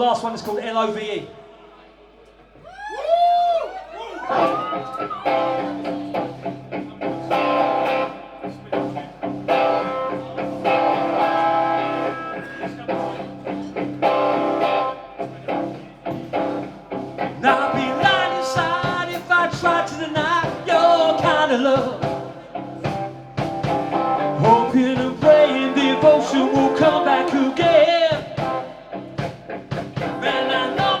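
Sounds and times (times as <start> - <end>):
live rock band playing: 4.2 - 31.0
wavering lead guitar melody: 4.3 - 31.0.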